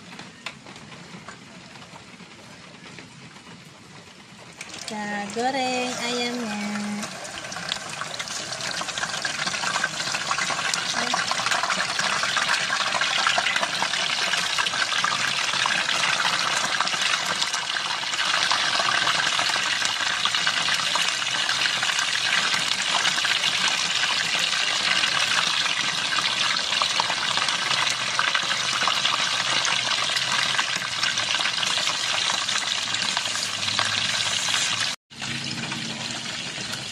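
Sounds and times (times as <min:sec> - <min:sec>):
chicken deep-frying in oil: 0:00.0 - 0:36.9.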